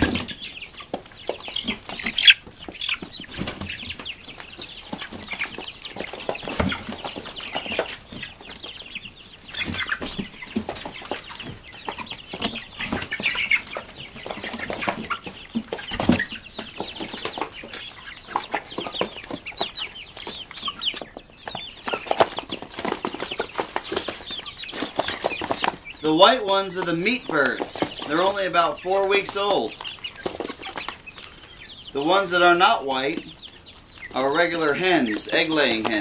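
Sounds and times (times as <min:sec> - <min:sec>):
chicks cheeping and clucking: 0:00.0 - 0:36.0.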